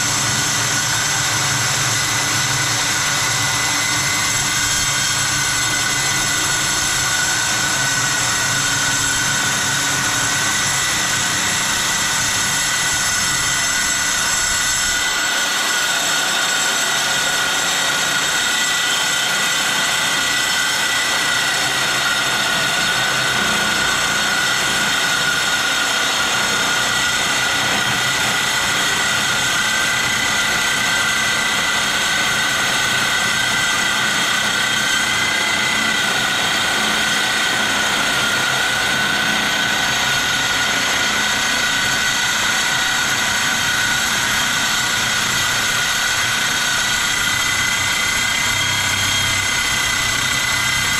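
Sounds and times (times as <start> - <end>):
circular saw cutting steel: 0.0 - 50.9.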